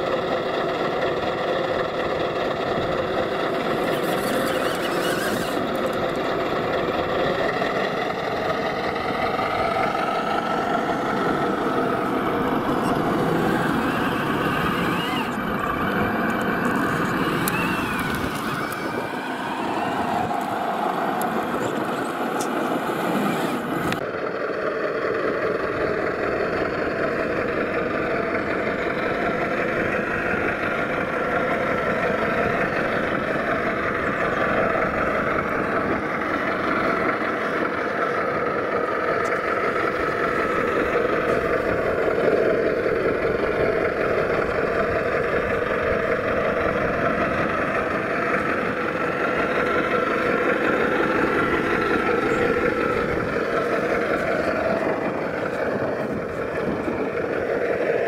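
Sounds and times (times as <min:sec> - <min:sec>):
model truck motors droning: 0:00.0 - 0:58.0
tires on gravel: 0:00.0 - 0:58.0.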